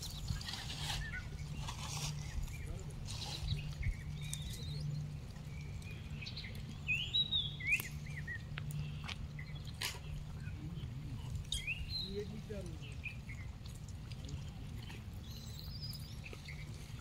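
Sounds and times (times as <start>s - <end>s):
high chirping calls: 0.0s - 13.6s, 14.8s - 17.0s
steady low hum: 0.0s - 17.0s.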